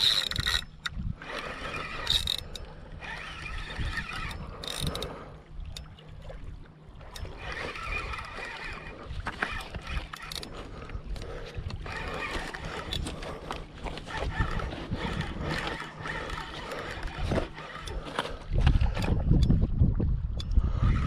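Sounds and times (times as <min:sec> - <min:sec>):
fishing reel gears whirring: 0:00.0 - 0:21.0.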